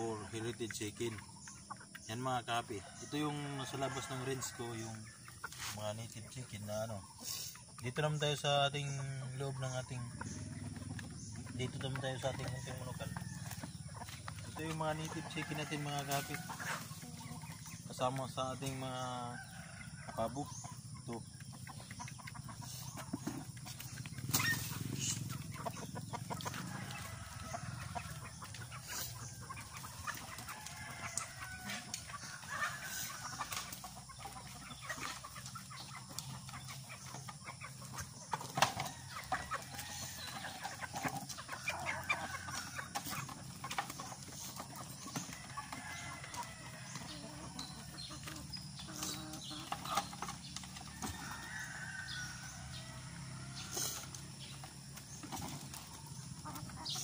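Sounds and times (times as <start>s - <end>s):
chickens clucking and calling: 0.0s - 57.0s.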